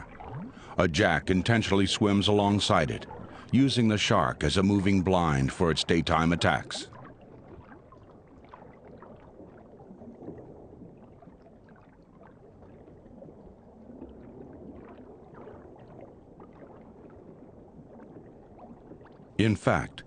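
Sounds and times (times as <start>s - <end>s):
soft crackles: 0.0s - 19.3s
underwater water wash: 0.0s - 20.0s.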